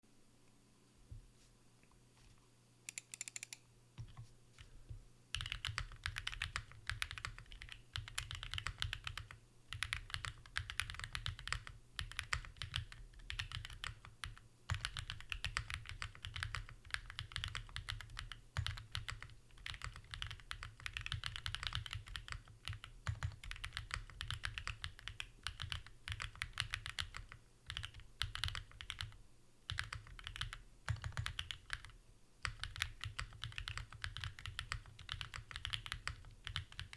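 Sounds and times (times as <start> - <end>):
mechanical keyboard typing: 2.9 - 4.2, 5.3 - 36.9.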